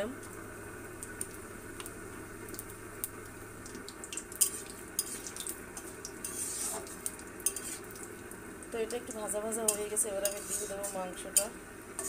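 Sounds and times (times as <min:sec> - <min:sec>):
spices sizzling in hot oil: 0:00.0 - 0:12.0
sharp crackles and pops: 0:00.1 - 0:11.6.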